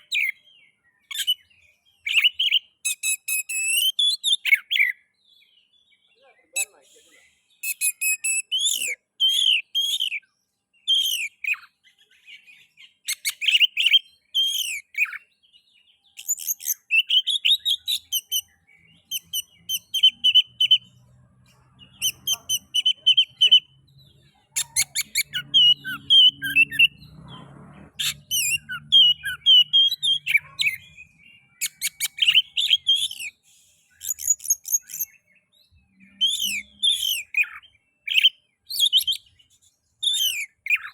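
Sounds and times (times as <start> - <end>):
songbird whistling and chattering: 0.0 - 5.1, 6.2 - 40.9.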